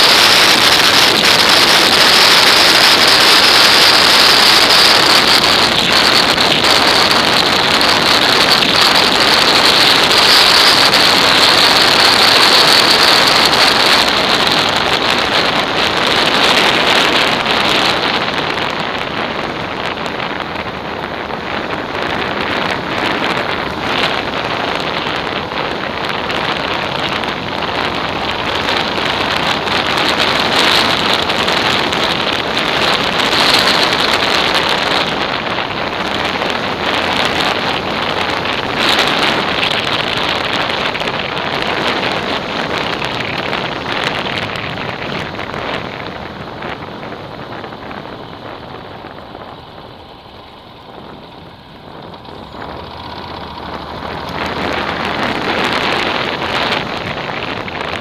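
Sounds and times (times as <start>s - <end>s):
motorcycle engine: 0.0s - 58.0s
road noise: 0.0s - 58.0s
wind on microphone: 0.0s - 58.0s.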